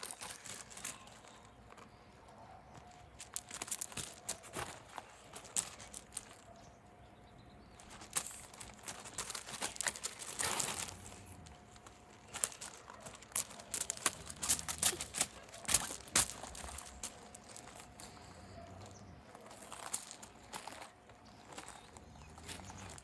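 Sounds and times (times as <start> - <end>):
crinkling rustles: 0.0 - 6.6, 7.7 - 23.0.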